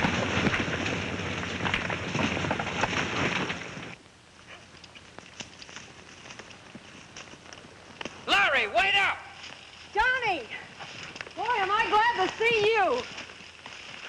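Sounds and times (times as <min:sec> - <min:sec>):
horses galloping: 0:00.0 - 0:14.0.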